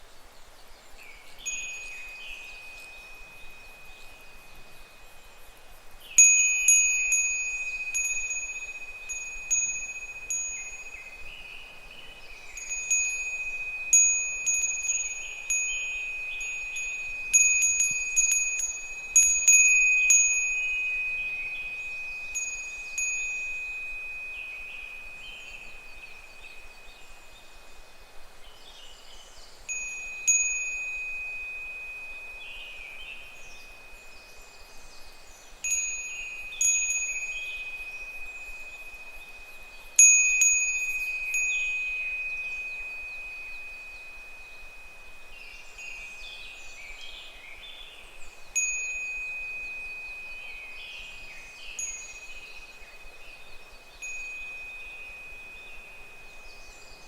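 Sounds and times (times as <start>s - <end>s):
faint cicadas calling: 0.0s - 57.0s
wind bell ringing: 1.4s - 27.2s, 29.7s - 57.0s.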